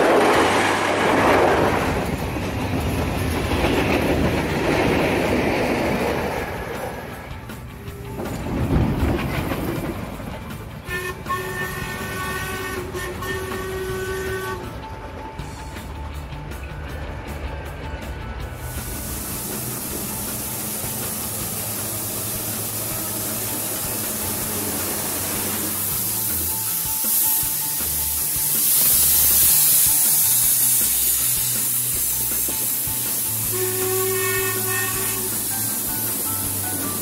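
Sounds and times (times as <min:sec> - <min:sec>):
steam locomotive venting steam: 0:00.0 - 0:37.0
background music: 0:02.4 - 0:37.0.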